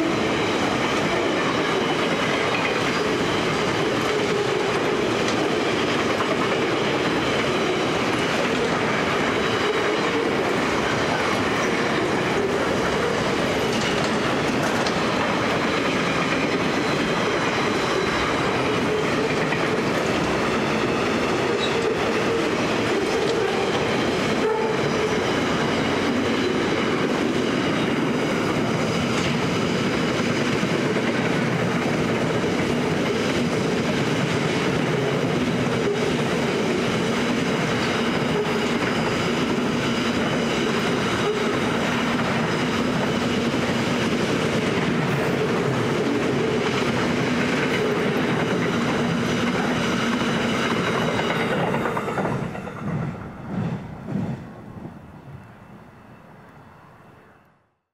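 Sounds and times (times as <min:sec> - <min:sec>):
train wheels rumbling on track: 0:00.0 - 0:56.8.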